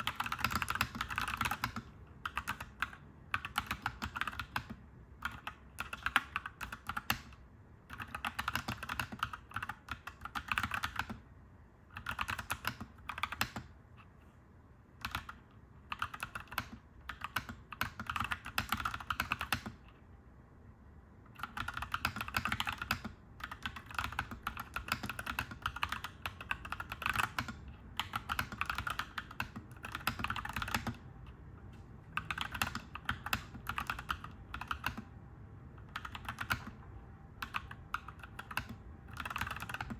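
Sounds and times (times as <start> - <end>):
mechanical keyboard typing: 0.0 - 11.2, 11.9 - 13.8, 15.0 - 19.9, 21.3 - 31.1, 32.1 - 35.1, 35.8 - 39.9.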